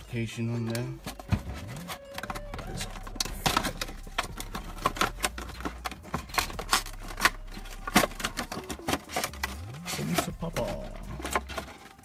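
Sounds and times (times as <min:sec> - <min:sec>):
plastic packaging crackling: 0:00.5 - 0:12.0.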